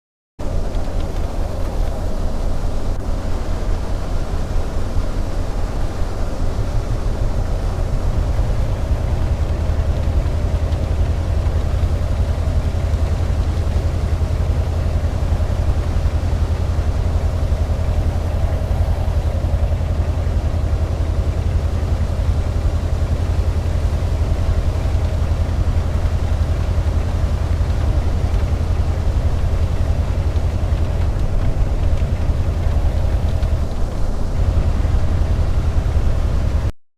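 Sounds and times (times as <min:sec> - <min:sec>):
tornado wind roaring: 0:00.4 - 0:36.7.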